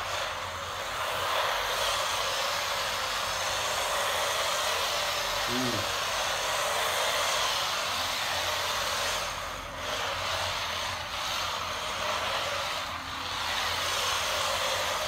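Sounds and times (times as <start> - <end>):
toy car motor whirring: 0.0 - 15.0.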